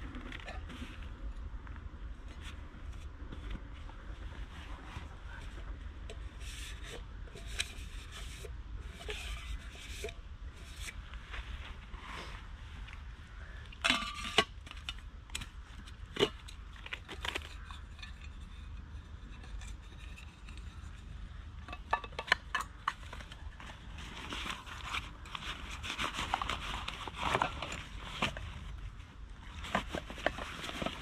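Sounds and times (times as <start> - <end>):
rustling and crinkling: 0.0 - 31.0
steady low rumble: 0.0 - 31.0.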